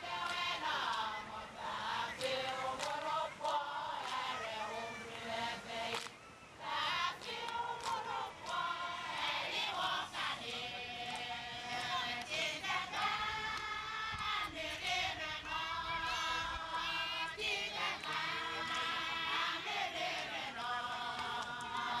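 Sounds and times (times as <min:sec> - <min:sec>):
women singing a chant: 0:00.0 - 0:22.0.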